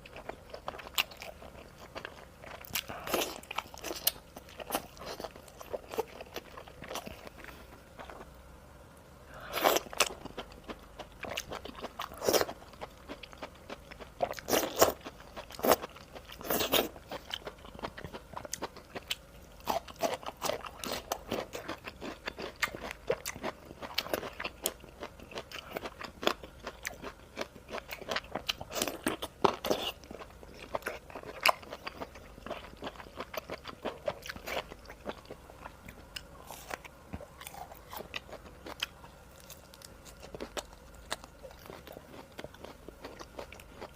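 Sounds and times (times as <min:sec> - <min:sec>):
person chewing food: 0:00.0 - 0:08.4, 0:09.4 - 0:43.9.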